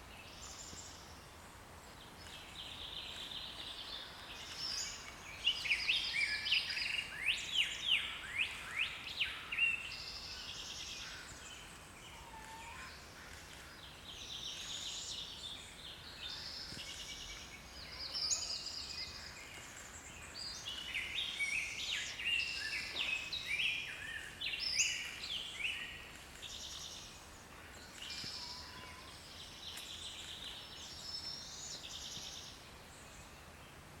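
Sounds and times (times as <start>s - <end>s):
faint background noise: 0.0s - 34.0s
songbirds calling and singing: 0.0s - 34.0s.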